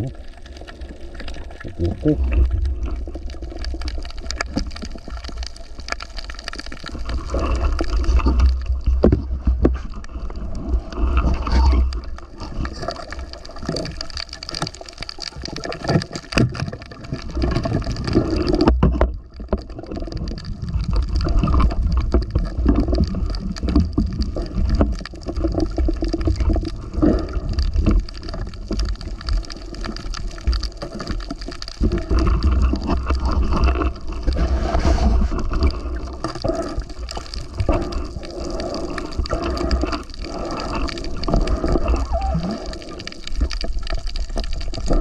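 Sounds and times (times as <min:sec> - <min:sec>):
water sloshing and gurgling: 0:00.0 - 0:45.0.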